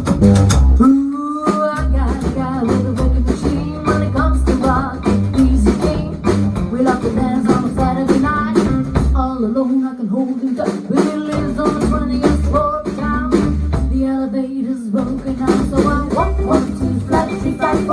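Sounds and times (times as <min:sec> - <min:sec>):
rockabilly band music: 0:00.0 - 0:17.9.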